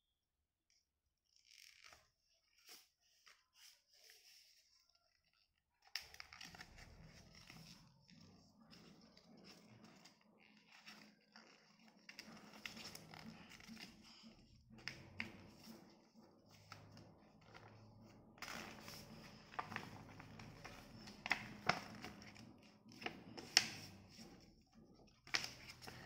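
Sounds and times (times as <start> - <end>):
paper folding and crinkling: 1.7 - 26.0.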